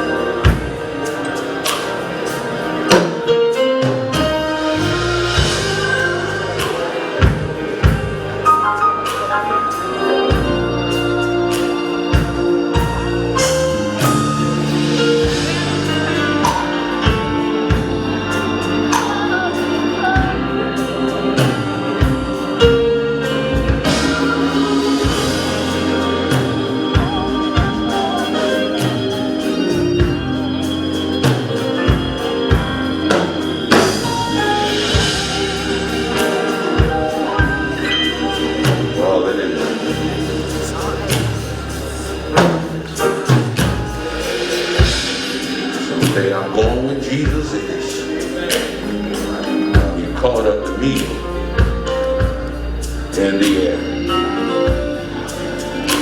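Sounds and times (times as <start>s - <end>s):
organ chords: 0.0s - 56.0s
percussion hits: 0.0s - 56.0s
bass line: 4.1s - 56.0s.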